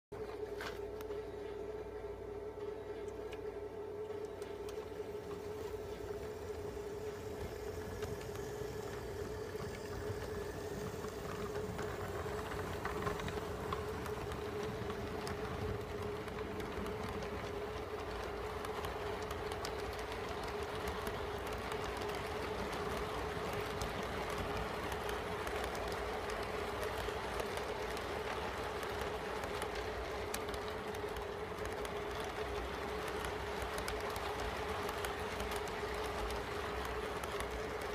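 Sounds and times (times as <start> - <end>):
steady hum: 0.2 - 37.9
model train wheels rattling: 4.2 - 37.9.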